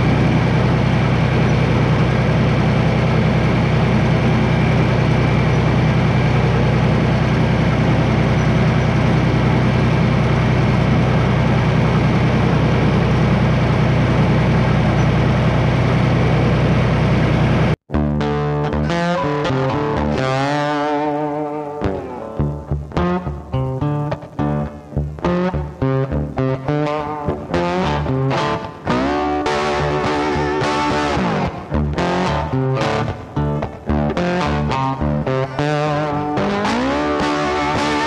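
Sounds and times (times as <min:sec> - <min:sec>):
tractor diesel engine running: 0:00.0 - 0:17.8, 0:24.4 - 0:38.0
guitar music: 0:00.0 - 0:38.0.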